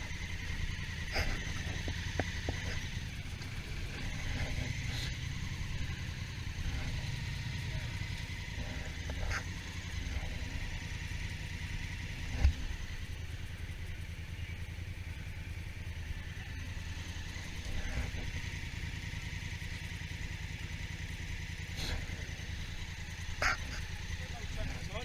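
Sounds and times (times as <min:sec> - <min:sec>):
motorcycle engine droning: 0:00.0 - 0:25.0.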